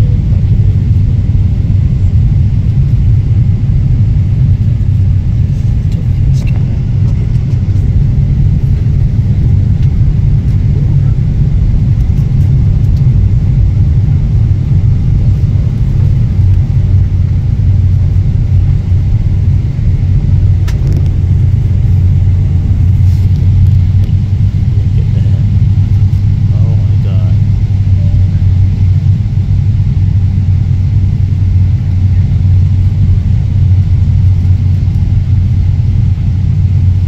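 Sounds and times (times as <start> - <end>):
airliner cabin engine and airflow rumble: 0.0 - 37.0.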